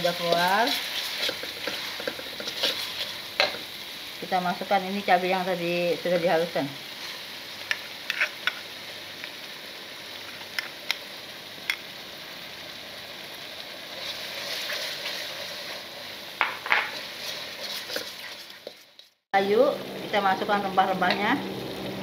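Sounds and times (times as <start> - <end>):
paste sizzling in hot oil: 0.0 - 22.0.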